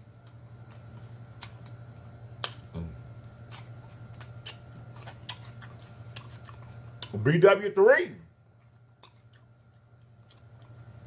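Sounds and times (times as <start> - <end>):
person chewing: 0.0 - 7.2, 8.5 - 11.0
steady low hum: 0.0 - 11.0.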